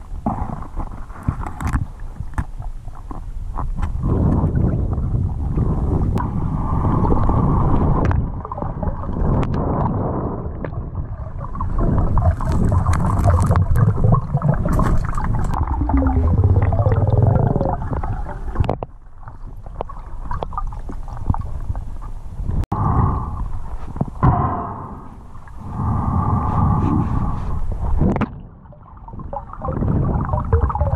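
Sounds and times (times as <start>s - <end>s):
muffled underwater rushing: 0.0s - 30.9s.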